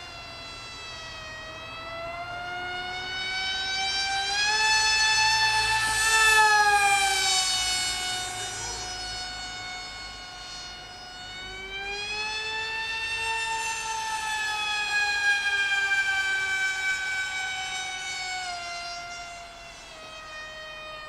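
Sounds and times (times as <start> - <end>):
electric motor and propeller whining: 0.0 - 21.0.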